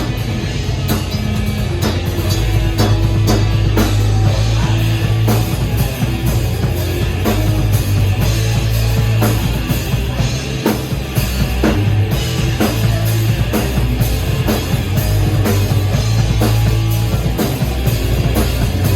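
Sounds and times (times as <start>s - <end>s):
distorted guitars: 0.0s - 18.9s
drum kit driving beat: 0.0s - 18.9s
heavy bass: 0.0s - 18.9s.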